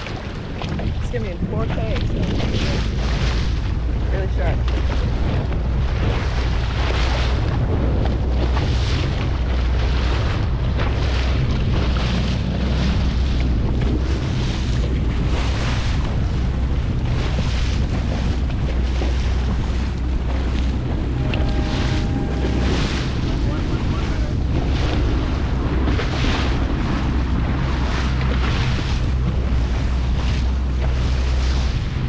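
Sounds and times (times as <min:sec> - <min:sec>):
boat engine droning: 0:00.0 - 0:32.0
wind buffeting microphone: 0:00.0 - 0:32.0.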